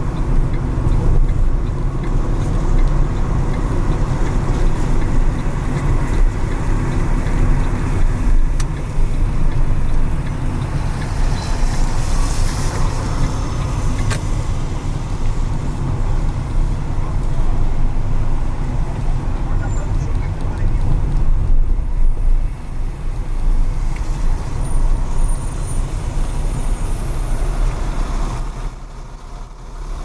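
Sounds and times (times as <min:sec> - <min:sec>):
car driving on wet pavement: 0:00.0 - 0:30.0.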